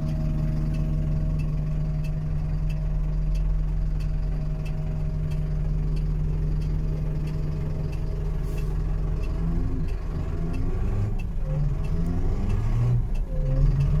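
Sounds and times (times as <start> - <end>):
diesel engine idling: 0.0 - 14.0
hazard relay ticking: 0.0 - 14.0.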